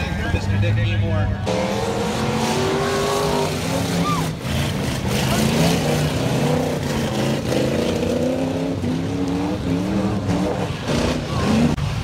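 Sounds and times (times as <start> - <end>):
racing car engines: 0.0 - 12.0.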